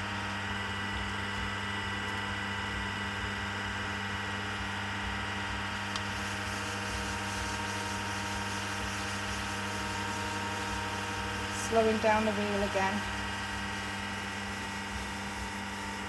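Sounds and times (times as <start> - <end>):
potter's wheel motor humming: 0.0 - 16.0.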